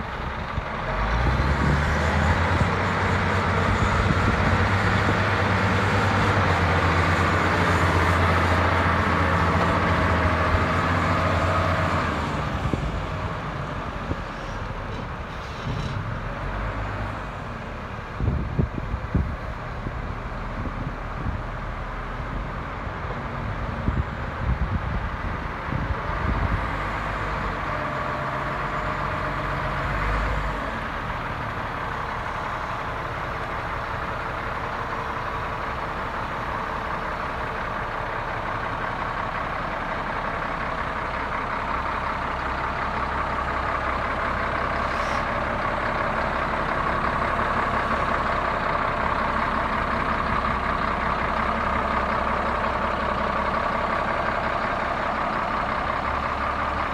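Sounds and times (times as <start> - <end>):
wheel loader diesel engine running: 0.0 - 56.9.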